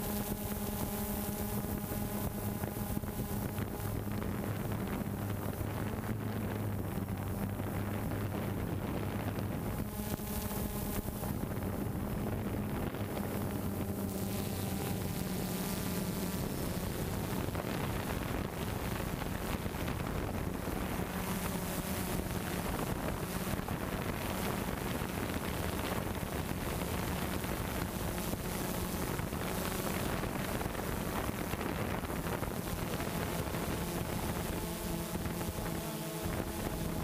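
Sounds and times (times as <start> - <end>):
drone propellers humming: 0.0 - 37.0
wind noise on microphone: 0.0 - 37.0.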